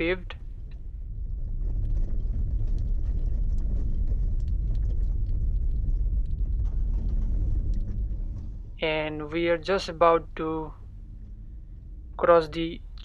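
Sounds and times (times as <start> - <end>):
vehicle driving on unpaved road: 0.0 - 13.0.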